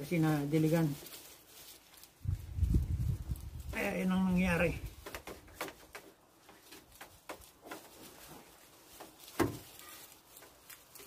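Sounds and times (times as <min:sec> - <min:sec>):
dry roots rustling and crackling: 0:00.0 - 0:11.0.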